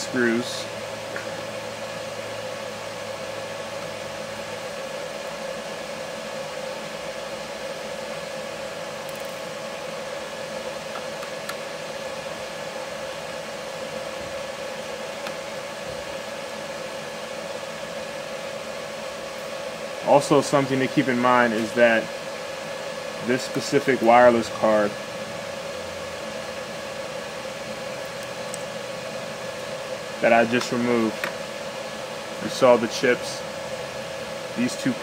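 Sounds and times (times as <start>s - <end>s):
constant hum: 0.0s - 35.0s.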